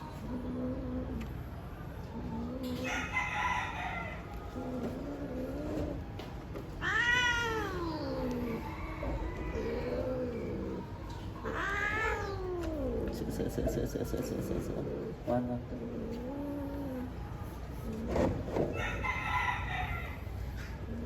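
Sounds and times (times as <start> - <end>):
cats caterwauling: 0.0 - 1.4, 2.1 - 21.0.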